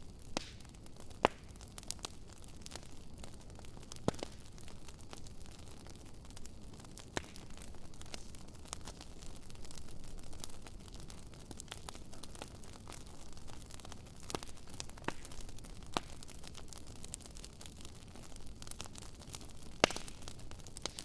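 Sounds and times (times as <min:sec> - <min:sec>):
bonfire wood crackling: 0:00.0 - 0:21.0.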